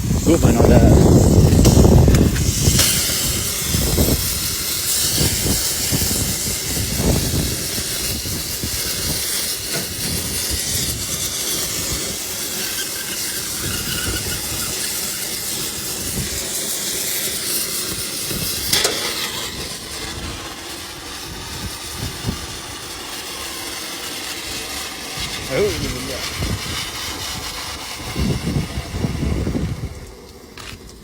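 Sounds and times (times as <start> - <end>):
loud steady hiss: 0.0 - 31.0.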